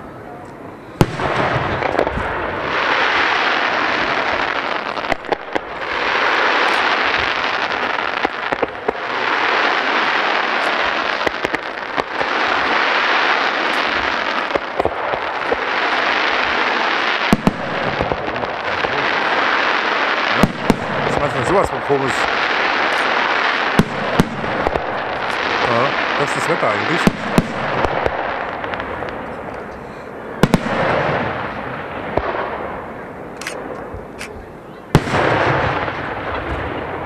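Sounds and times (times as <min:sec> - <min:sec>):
hissing firework trails: 0:00.0 - 0:37.0
firework pops and crackles: 0:00.5 - 0:29.8, 0:30.4 - 0:32.8, 0:33.4 - 0:37.0
firework bang: 0:01.0 - 0:29.2, 0:30.4 - 0:32.9, 0:34.9 - 0:37.0.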